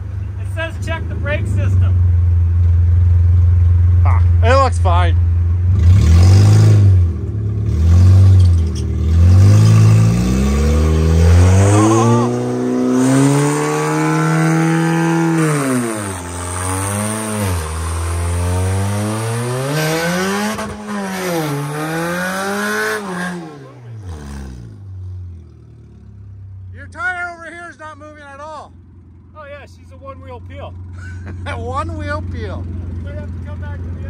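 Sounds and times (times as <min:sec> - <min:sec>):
car engine revving: 0:00.5 - 0:29.4.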